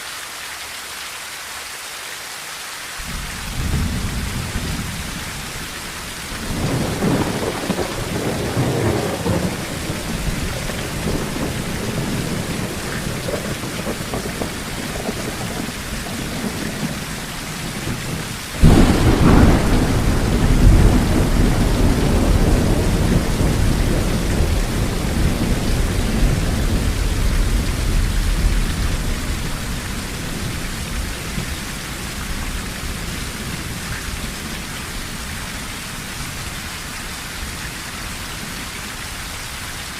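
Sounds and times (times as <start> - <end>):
rain on a tin roof: 0.0 - 39.9
thunder rumbling: 3.0 - 36.6.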